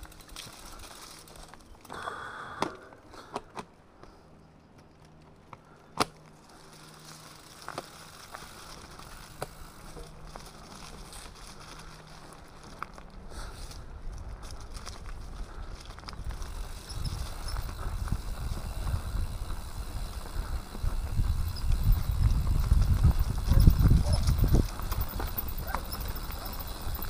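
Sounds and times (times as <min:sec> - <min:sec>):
bike tyres crackling over leaves: 0:00.0 - 0:02.6, 0:03.2 - 0:27.0
bike clicks and knocks: 0:00.0 - 0:27.0.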